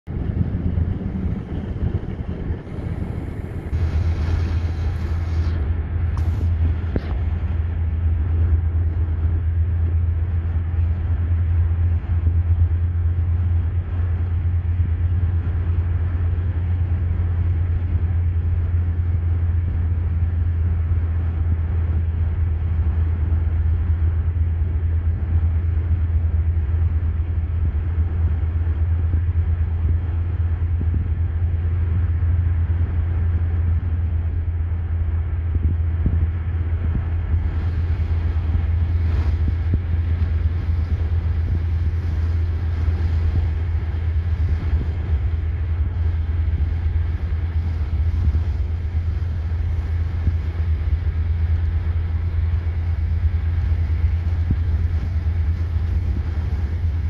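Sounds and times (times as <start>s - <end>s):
vehicle rumble from inside: 0.0s - 57.0s.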